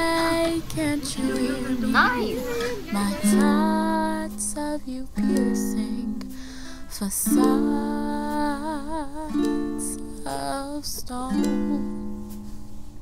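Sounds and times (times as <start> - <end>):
person singing long notes: 0.0 - 12.0
plucked ukulele: 0.0 - 13.0.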